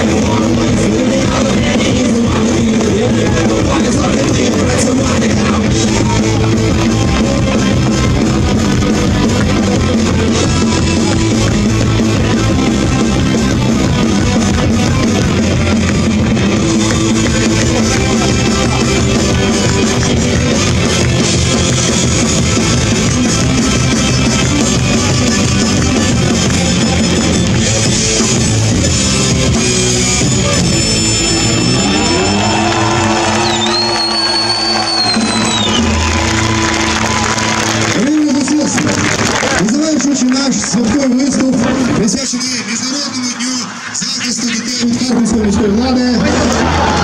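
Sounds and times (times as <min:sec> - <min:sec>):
drum kit: 0:00.0 - 0:37.9.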